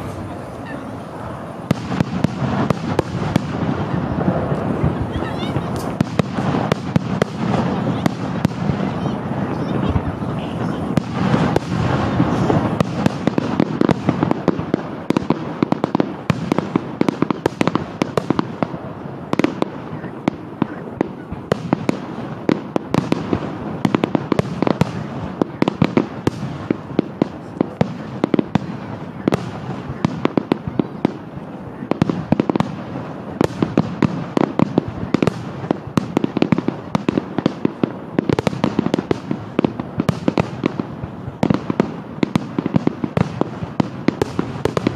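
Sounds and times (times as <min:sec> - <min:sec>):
firework bangs and crackles: 0:00.0 - 0:44.9.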